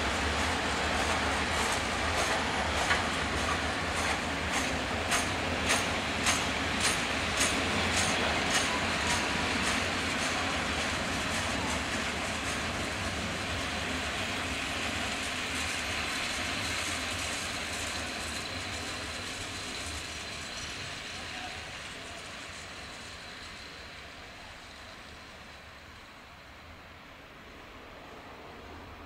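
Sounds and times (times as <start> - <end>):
freight train wheels rolling on rails: 0.0 - 29.0.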